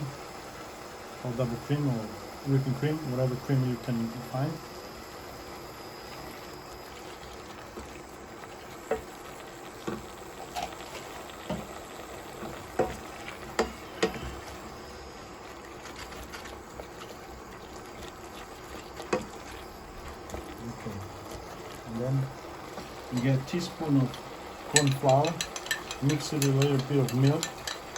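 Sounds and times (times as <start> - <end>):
sauce simmering and bubbling in a pan: 0.0 - 27.9.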